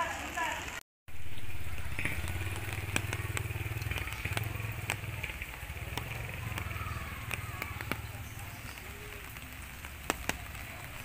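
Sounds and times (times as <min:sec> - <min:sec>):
low engine rumble: 0:01.1 - 0:11.0.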